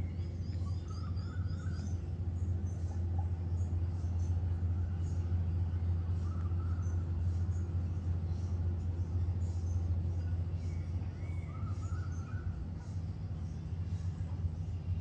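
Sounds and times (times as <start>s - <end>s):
faint bird chirps: 0.0s - 14.9s
distant city traffic rumble: 0.0s - 15.0s.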